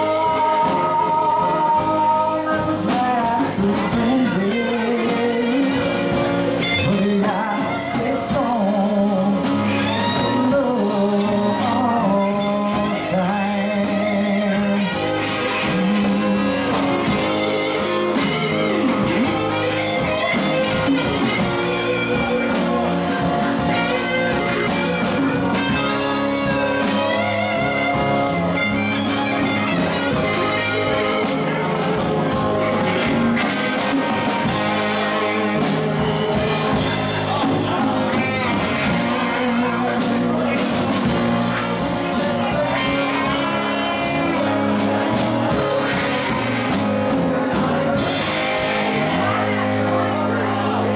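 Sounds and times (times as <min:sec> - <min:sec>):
blues-rock band playing: 0:00.0 - 0:50.9
man singing: 0:00.0 - 0:50.9.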